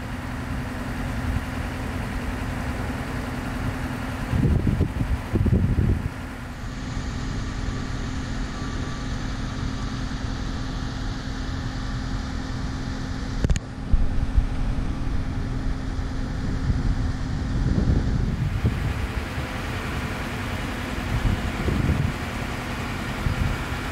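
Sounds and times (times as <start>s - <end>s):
engine running steadily: 0.0s - 23.9s.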